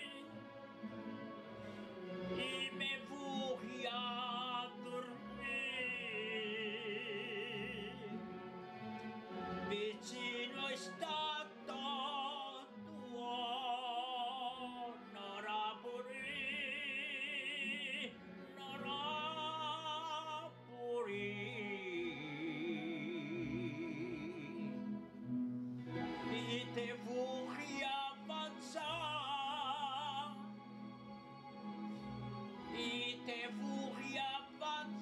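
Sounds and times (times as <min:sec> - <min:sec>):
orchestral accompaniment: 0:00.0 - 0:35.0.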